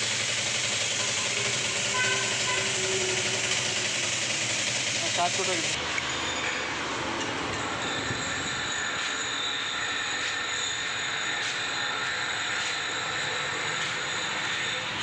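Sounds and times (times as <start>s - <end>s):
machine hissing and whining: 0.0s - 15.0s.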